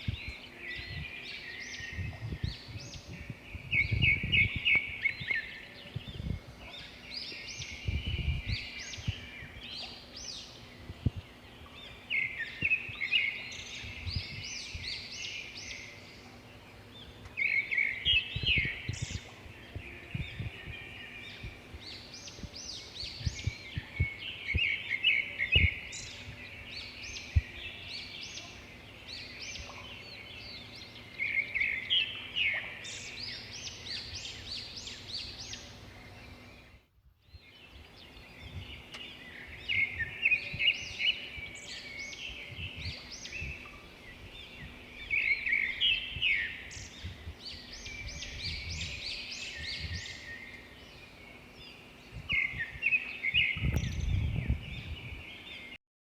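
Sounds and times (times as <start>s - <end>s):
songbird singing: 0.0s - 55.8s.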